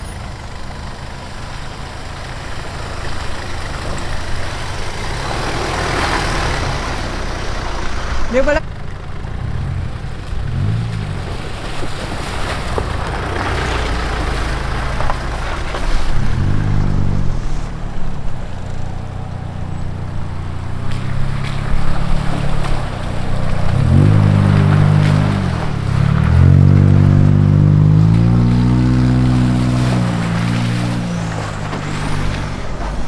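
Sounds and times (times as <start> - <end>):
vehicle engines revving: 0.0 - 33.0
water splashing around tyres: 0.0 - 33.0.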